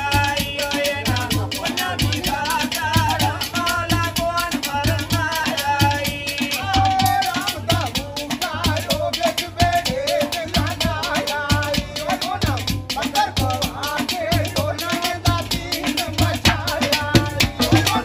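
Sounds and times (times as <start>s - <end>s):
men singing: 0.0s - 18.0s
rattling percussion: 0.0s - 18.0s
steady drum beat: 0.0s - 18.0s.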